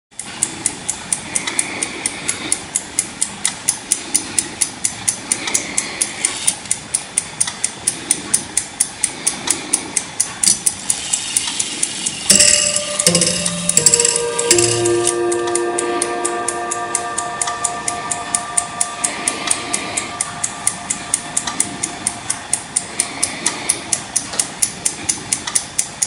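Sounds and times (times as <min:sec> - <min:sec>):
clock ticking: 0:00.1 - 0:26.0.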